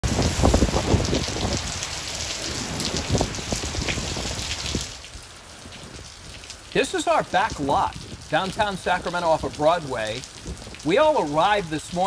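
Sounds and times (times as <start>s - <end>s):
heavy rain pouring: 0.0s - 12.0s
wind gusting against microphone: 0.0s - 12.0s.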